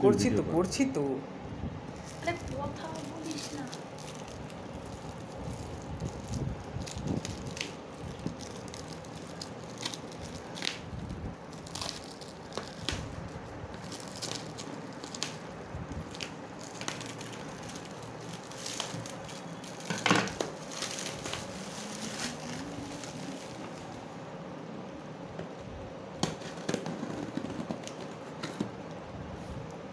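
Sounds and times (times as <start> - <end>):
plastic wrapping crinkling: 1.9 - 24.2, 26.2 - 28.7.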